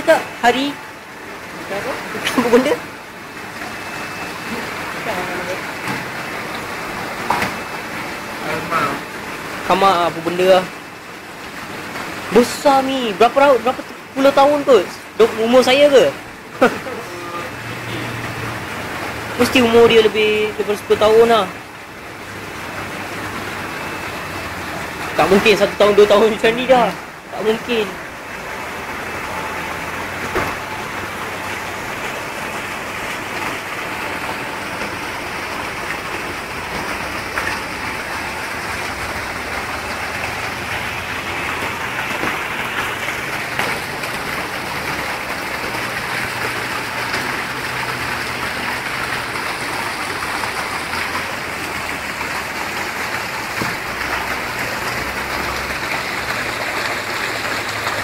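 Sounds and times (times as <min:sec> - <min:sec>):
water splashing into pond: 0:00.0 - 0:58.0.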